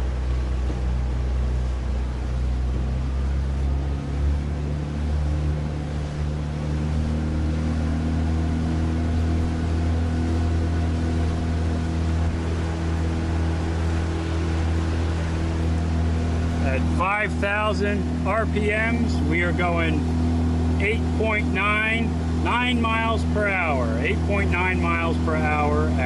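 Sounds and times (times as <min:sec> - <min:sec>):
outboard motor at high throttle: 0:00.0 - 0:26.0.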